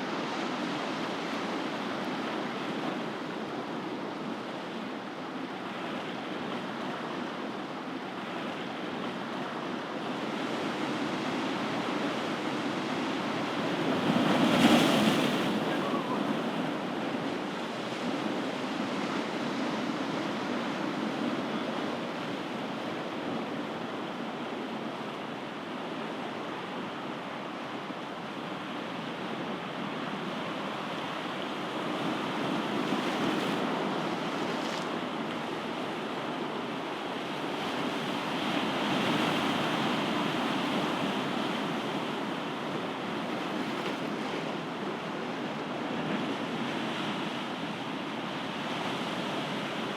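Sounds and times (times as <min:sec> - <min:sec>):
ocean waves washing ashore: 0:00.0 - 0:49.9.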